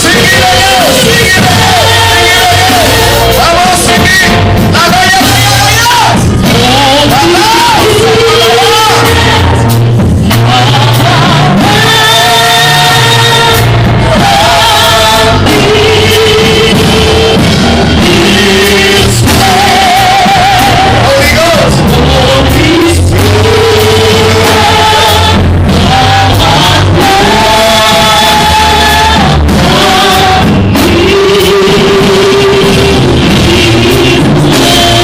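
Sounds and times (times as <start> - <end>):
person singing with a band: 0.0 - 35.0.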